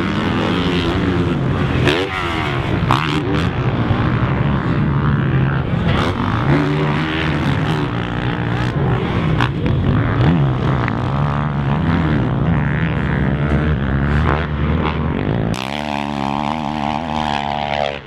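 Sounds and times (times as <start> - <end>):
motocross bike engine revving: 0.0 - 18.0.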